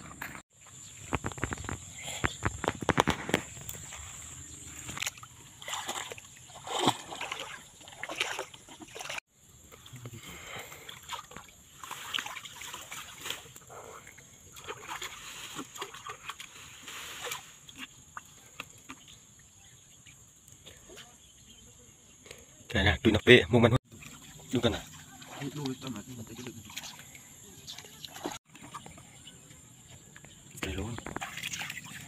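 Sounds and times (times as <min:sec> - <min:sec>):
water splashing and sloshing: 0:00.0 - 0:21.2, 0:23.8 - 0:32.0.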